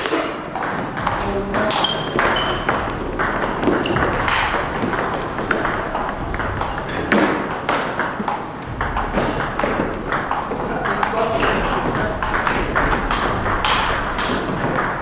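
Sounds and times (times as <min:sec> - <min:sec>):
table tennis ball clicking: 0:00.0 - 0:15.0.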